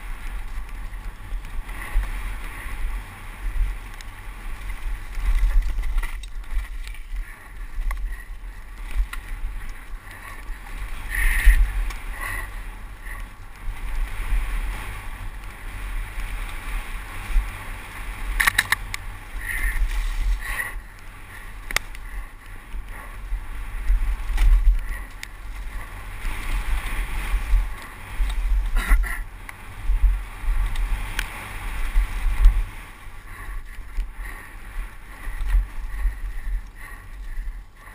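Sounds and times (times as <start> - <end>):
bike knocking and rattling: 0.0 - 37.9
wind buffeting microphone: 0.0 - 37.9.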